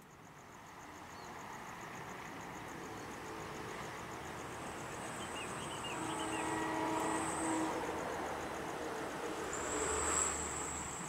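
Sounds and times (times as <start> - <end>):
insects pulsing: 0.0 - 11.0
approaching train: 1.7 - 11.0.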